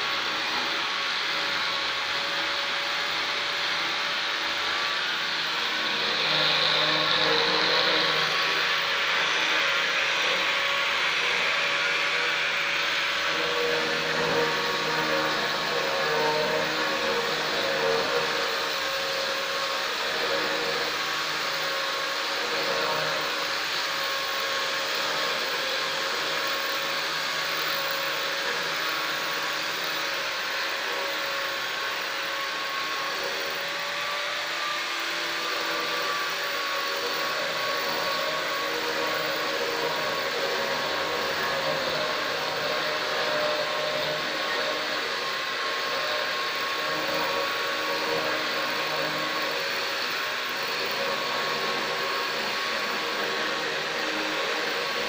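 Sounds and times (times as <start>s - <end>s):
angle grinder grinding stone: 0.0s - 55.0s.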